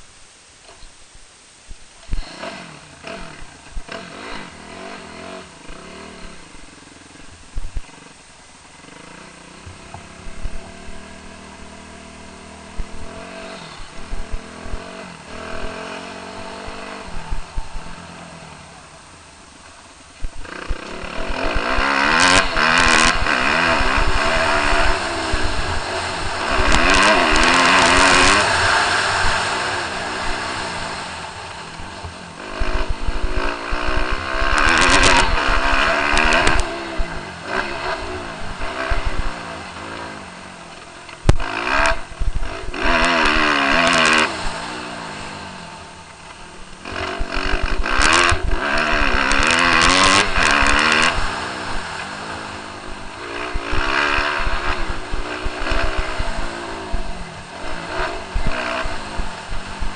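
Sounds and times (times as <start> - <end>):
motocross bike engine revving: 2.0 - 59.9.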